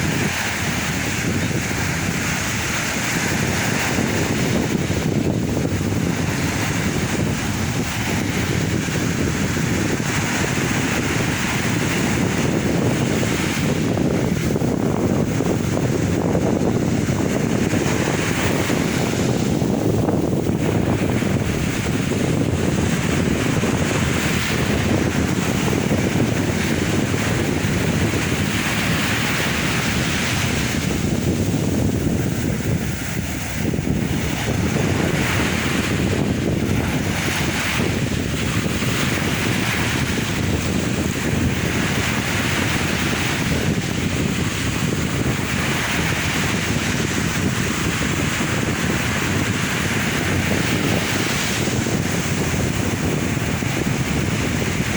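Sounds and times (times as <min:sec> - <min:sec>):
sea waves washing on shore: 0:00.0 - 0:54.9
wind buffeting microphone: 0:00.0 - 0:54.9.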